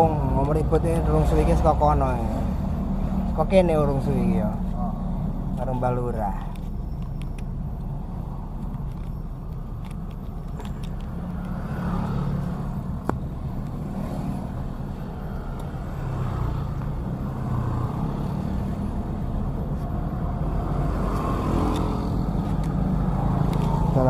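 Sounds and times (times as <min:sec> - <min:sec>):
vehicle engine and tyre rumble: 0:00.0 - 0:24.0.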